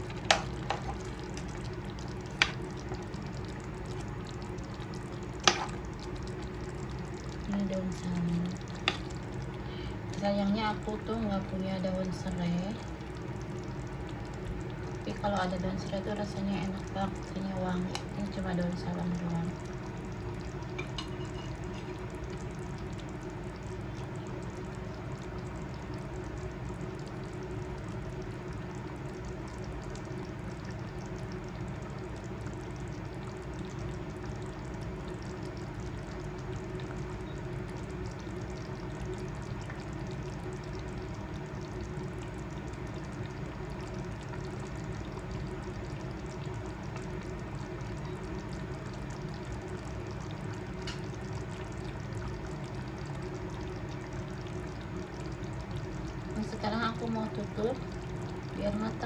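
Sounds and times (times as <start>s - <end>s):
curry bubbling in a pot: 0.0s - 59.0s
low steady hum: 0.0s - 59.0s.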